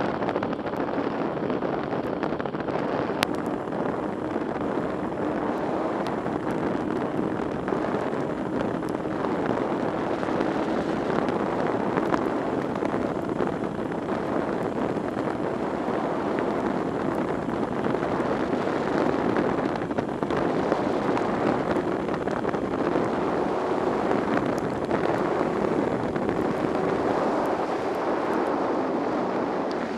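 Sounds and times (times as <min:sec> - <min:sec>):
motorcycle engine running: 0:00.0 - 0:29.9
wind rushing over microphone: 0:00.0 - 0:29.9
tyres on wet tarmac: 0:03.1 - 0:29.9.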